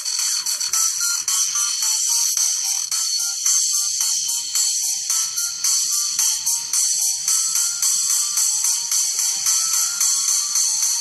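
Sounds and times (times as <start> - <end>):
tinny dubstep music through a speaker: 0.0 - 11.0.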